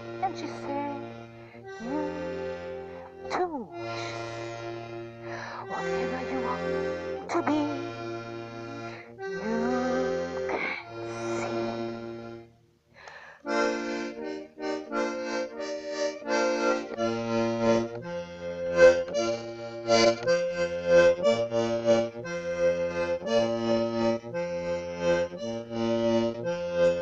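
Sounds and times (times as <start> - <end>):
accordion bass notes: 0.0 - 27.0
button accordion playing chords: 0.0 - 27.0.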